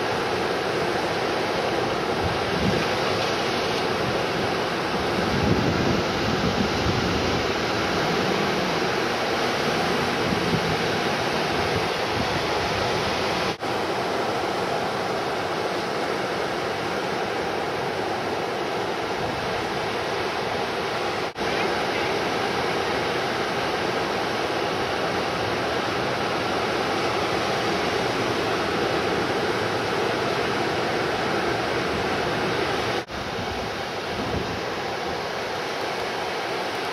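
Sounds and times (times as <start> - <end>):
ocean surf breaking: 0.0 - 36.9.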